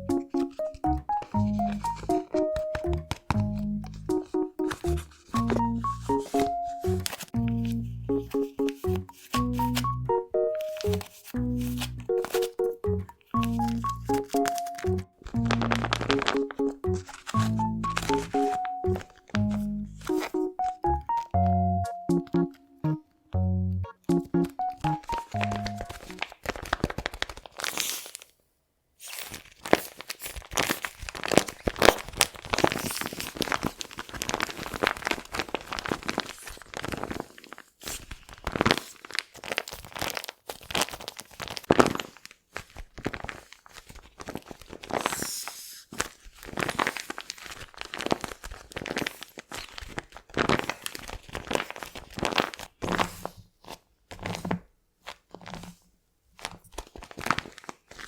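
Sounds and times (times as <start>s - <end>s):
paper crinkling: 0.0s - 21.3s, 24.1s - 28.4s, 29.0s - 55.8s, 56.4s - 58.0s.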